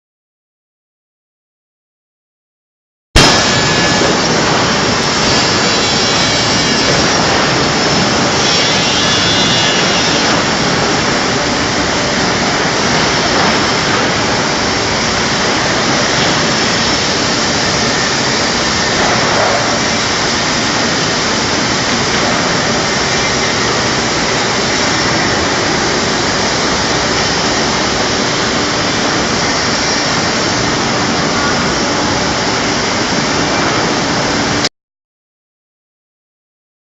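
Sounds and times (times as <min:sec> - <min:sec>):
cutting machine rushing noise: 0:03.2 - 0:33.4.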